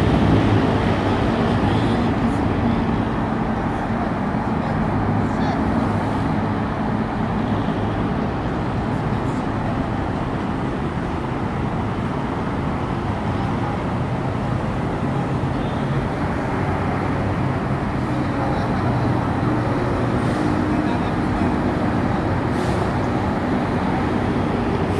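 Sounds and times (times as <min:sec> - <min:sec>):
road traffic rumble: 0:00.0 - 0:24.9.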